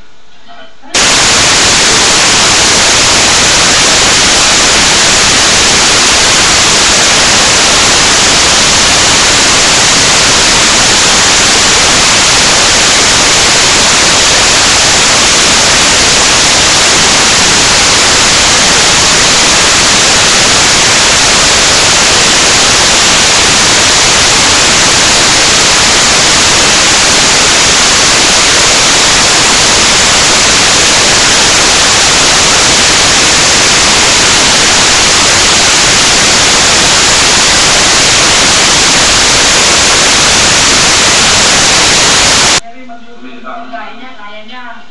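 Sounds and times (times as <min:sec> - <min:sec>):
static hiss: 0:00.9 - 0:42.6.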